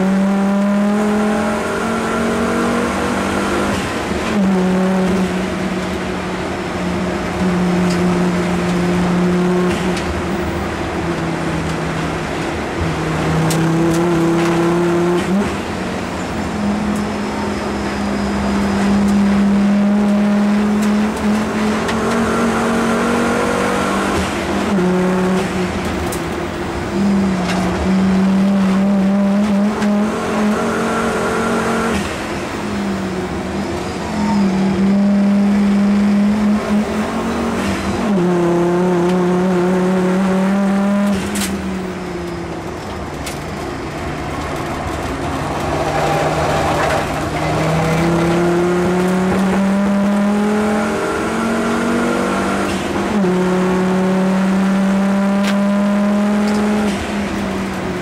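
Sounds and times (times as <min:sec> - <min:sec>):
race car engine under load: 0:00.0 - 0:58.0.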